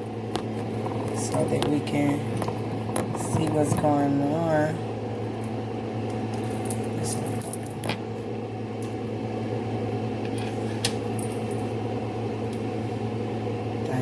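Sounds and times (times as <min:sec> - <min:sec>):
range hood fan humming: 0:00.0 - 0:14.0.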